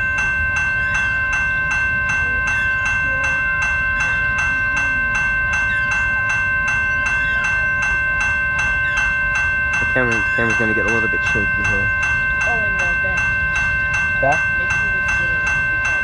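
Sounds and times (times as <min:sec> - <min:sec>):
crossing bell ringing: 0:00.0 - 0:16.0
train rumble: 0:00.0 - 0:16.0.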